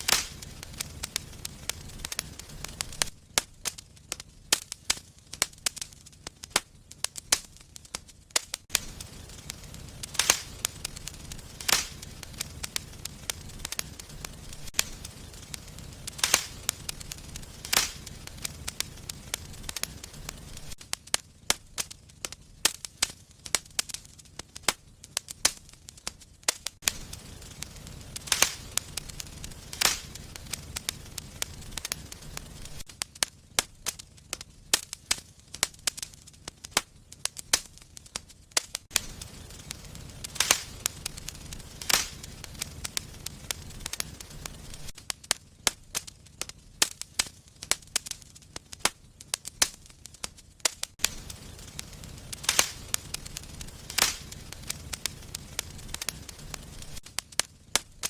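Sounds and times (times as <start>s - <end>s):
fire pops: 0.0s - 58.0s
low rumble of flames: 0.0s - 58.0s
wood fire crackling: 0.0s - 58.0s.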